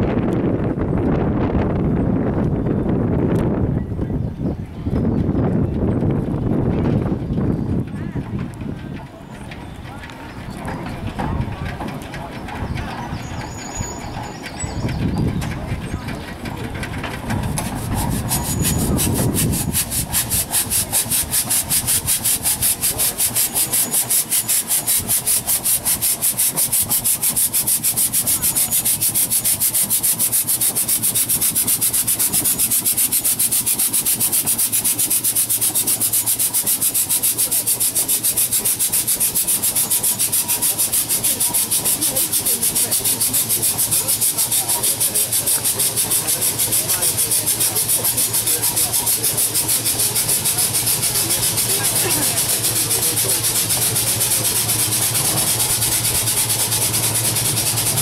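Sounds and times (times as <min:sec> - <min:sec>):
steam engine exhaust chuffing: 0:00.0 - 0:58.0.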